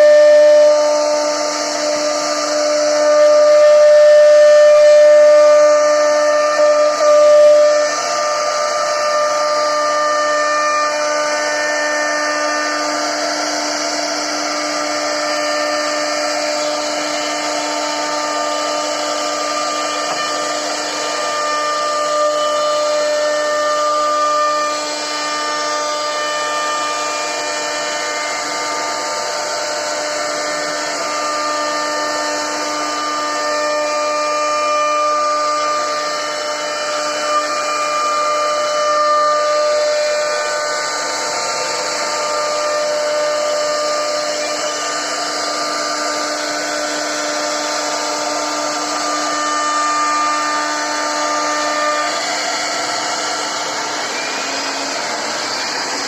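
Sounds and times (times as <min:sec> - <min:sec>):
bit cutting into wood: 0:00.0 - 0:56.0
router spindle whine: 0:00.0 - 0:56.0.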